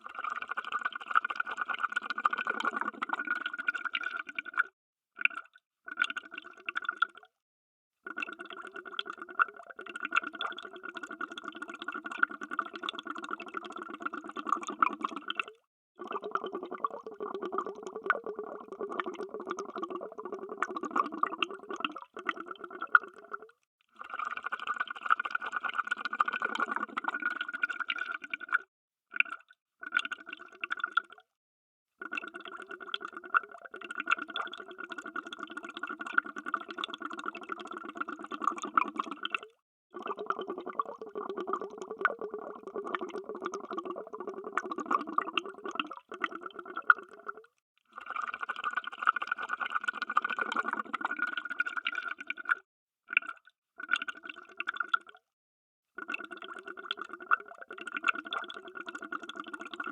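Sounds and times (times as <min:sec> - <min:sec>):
underwater bubbling: 0:00.0 - 0:07.2, 0:08.1 - 0:25.1, 0:25.8 - 0:28.6, 0:32.1 - 0:48.9, 0:49.5 - 0:55.2.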